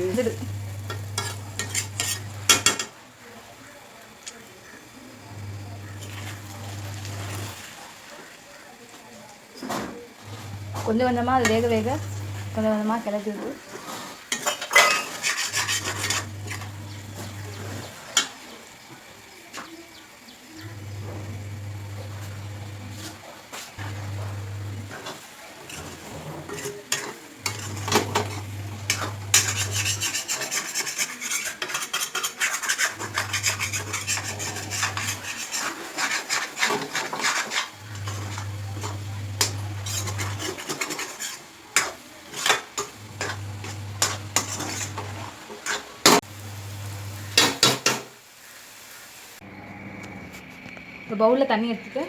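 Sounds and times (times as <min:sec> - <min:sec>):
spatula scraping a pan: 0:00.0 - 0:03.0, 0:04.2 - 0:08.4, 0:09.6 - 0:18.9, 0:20.6 - 0:48.0.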